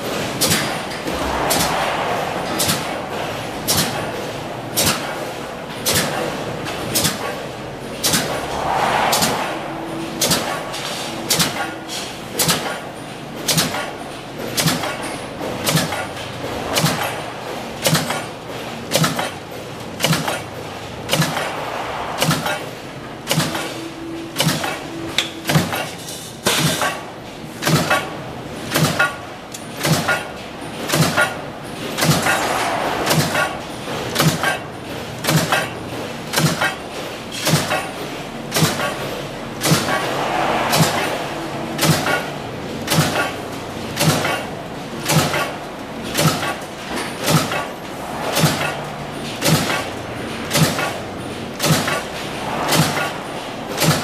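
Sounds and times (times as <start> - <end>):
punch press running: 0.0 - 8.5, 9.2 - 21.6, 22.2 - 54.0.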